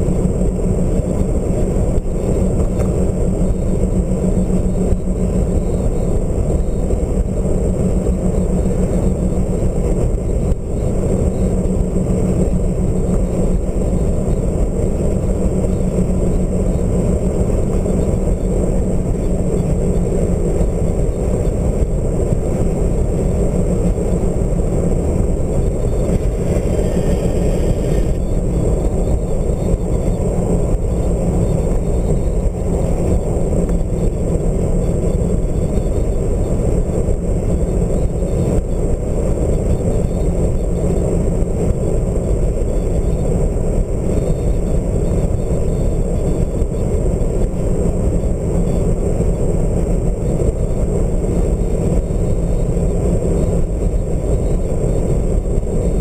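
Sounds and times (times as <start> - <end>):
car engine: 0.0 - 56.0
wind noise: 0.0 - 56.0.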